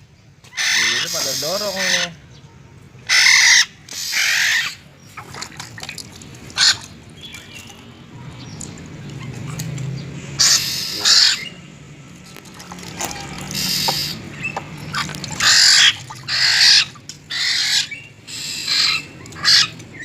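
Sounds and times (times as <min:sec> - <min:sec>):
harsh bird calls: 0:00.4 - 0:11.9, 0:12.5 - 0:20.0.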